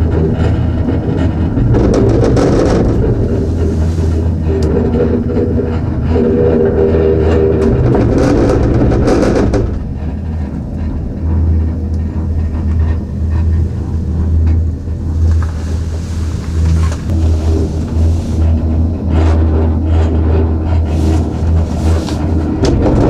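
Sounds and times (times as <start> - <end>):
cabin rattling and clicking: 0.0 - 10.8, 14.4 - 23.0
gondola cabin rumbling: 0.0 - 23.0.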